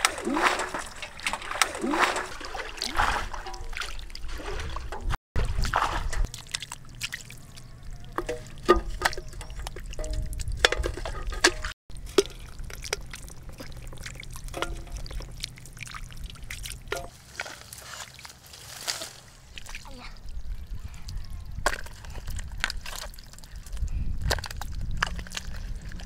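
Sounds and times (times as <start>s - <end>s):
mud squelching: 0.0s - 26.0s
water trickling and sloshing: 0.0s - 26.0s.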